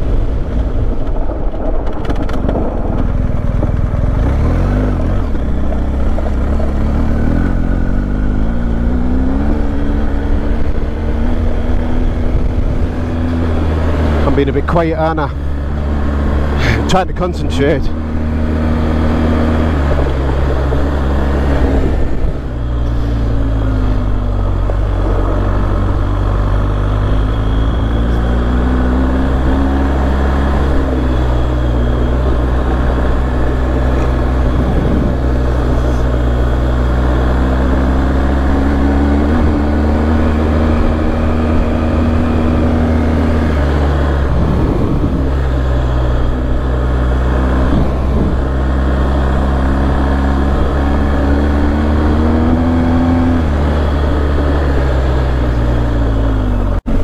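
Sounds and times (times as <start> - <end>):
motorcycle engine at low revs: 0.0 - 57.0
steady rushing noise: 0.0 - 57.0.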